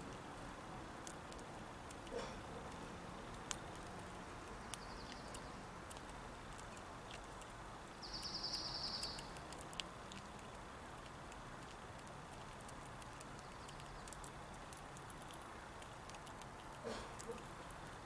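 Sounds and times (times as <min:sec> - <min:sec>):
outdoor background hiss: 0:00.0 - 0:18.0
squirrel nibbling dry clicks: 0:00.0 - 0:18.0.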